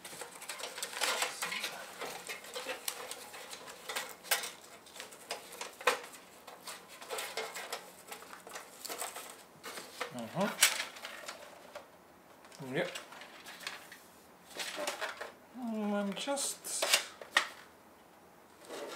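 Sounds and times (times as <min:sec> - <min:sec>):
rustling: 0:00.0 - 0:17.7, 0:18.5 - 0:18.9.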